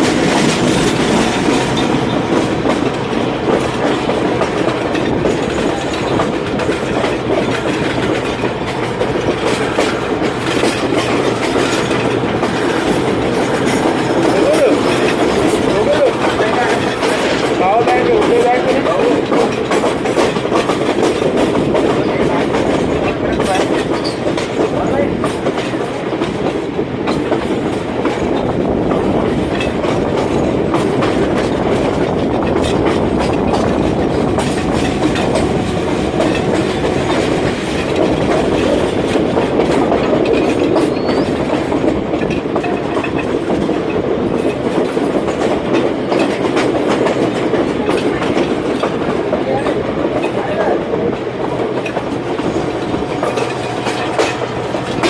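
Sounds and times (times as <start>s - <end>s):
train rumble: 0.0s - 55.0s
train wheels clattering on rails: 0.0s - 55.0s.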